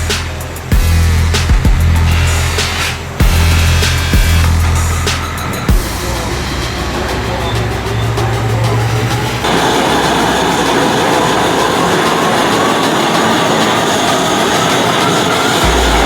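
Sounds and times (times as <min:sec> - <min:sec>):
car exhaust: 0:00.0 - 0:16.0
road noise: 0:00.0 - 0:16.0.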